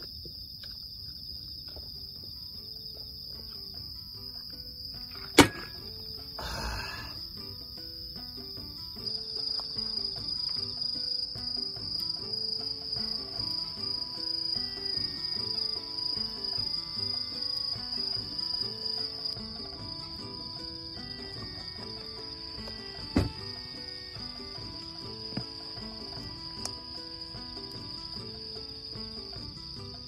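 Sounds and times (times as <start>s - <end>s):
night insects trilling: 0.0s - 30.0s
soft background music: 1.7s - 30.0s.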